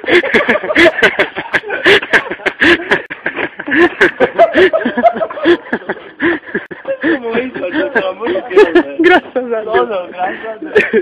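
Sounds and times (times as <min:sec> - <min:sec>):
men laughing: 0:00.0 - 0:11.0.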